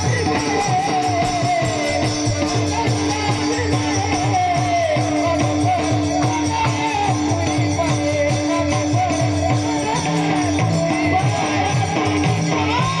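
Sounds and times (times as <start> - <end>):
drum beat: 0.0 - 13.0
jingling hand percussion: 0.0 - 13.0
person singing: 0.0 - 13.0.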